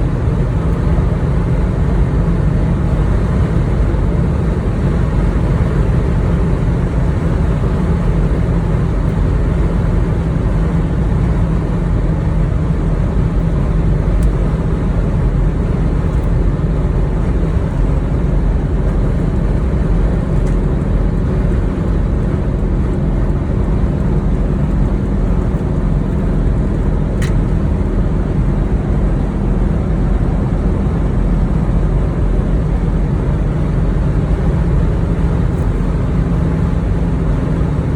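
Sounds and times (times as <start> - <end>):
diesel engine drone: 0.0 - 37.9
road noise: 0.0 - 37.9.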